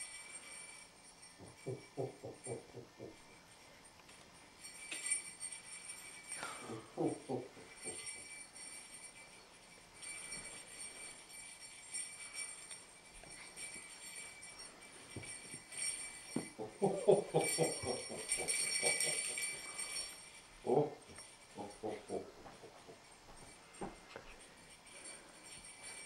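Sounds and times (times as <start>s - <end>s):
sleigh bells jingling: 0.0s - 26.0s.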